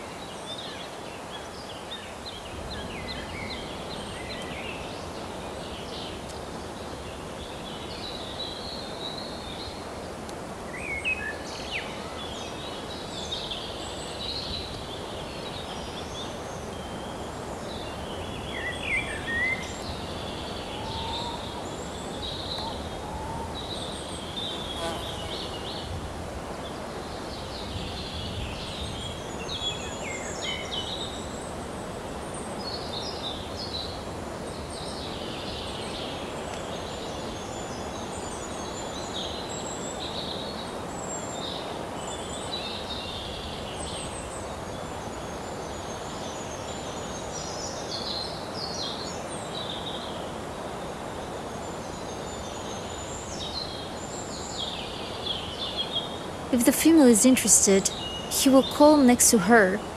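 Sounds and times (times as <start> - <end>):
small birds singing and chirping: 0.0 - 9.8, 10.7 - 26.0, 26.6 - 56.8, 57.6 - 59.9
outdoor background hiss: 0.0 - 59.9.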